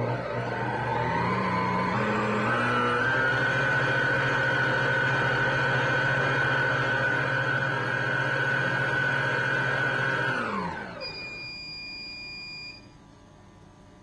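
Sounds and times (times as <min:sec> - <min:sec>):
stand mixer motor whine: 0:00.0 - 0:11.6.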